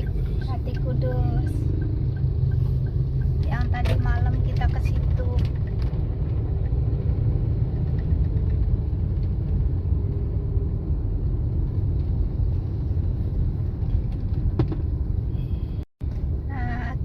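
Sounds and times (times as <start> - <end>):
vehicle driving rumble: 0.0 - 17.0.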